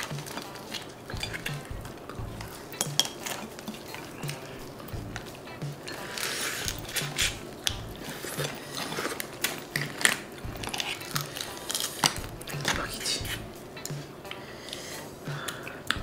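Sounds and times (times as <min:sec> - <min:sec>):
crab shells cracking: 0:00.0 - 0:12.8
light background music: 0:00.0 - 0:16.0.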